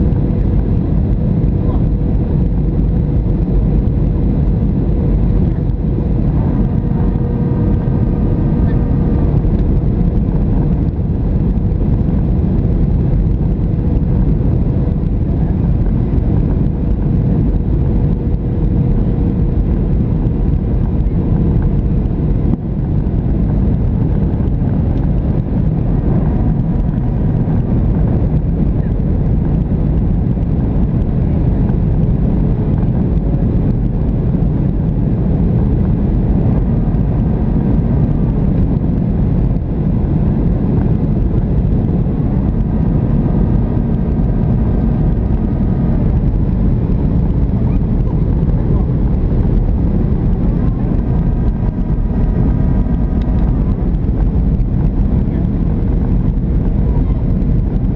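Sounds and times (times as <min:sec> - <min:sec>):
aircraft cabin low rumble: 0:00.0 - 0:57.9.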